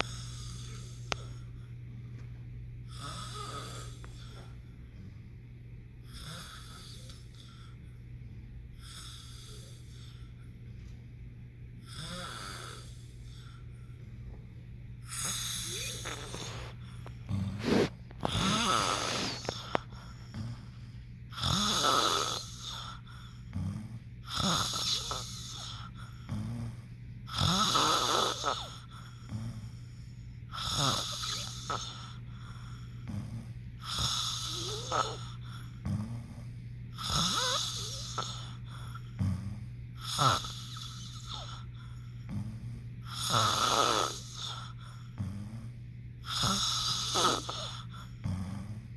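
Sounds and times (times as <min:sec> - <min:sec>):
person snoring: 0:00.0 - 0:01.5, 0:02.9 - 0:05.2, 0:06.0 - 0:07.8, 0:08.8 - 0:10.2, 0:11.8 - 0:13.6, 0:15.0 - 0:29.9, 0:30.5 - 0:48.9.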